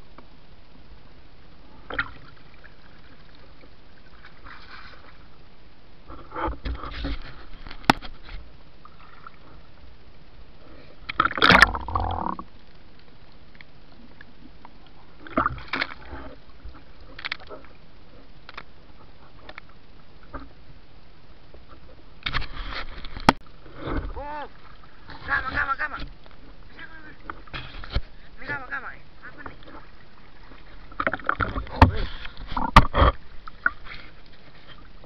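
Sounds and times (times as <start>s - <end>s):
water splashing and gurgling: 1.5s - 10.1s, 10.8s - 20.9s, 21.5s - 35.0s.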